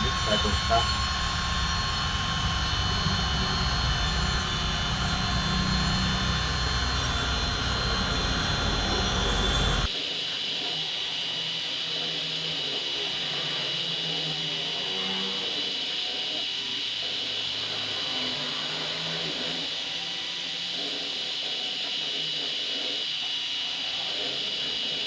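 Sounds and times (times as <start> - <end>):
machine high whine: 0.0 - 25.0.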